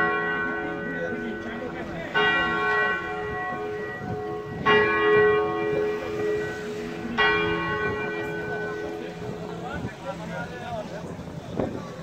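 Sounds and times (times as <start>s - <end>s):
tower bell tolling: 0.0s - 10.0s.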